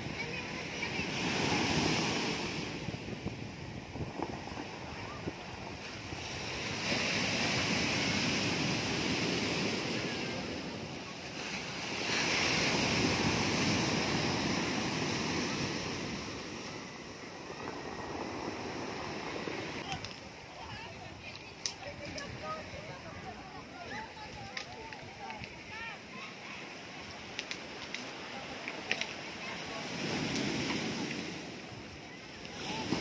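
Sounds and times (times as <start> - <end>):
surf breaking on stony beach: 0.0 - 33.0.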